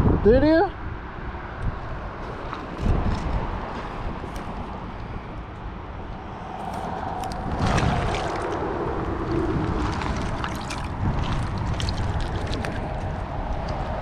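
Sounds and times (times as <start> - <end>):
wind rumbling on microphone: 0.0 - 14.0
trickling water: 1.6 - 14.0.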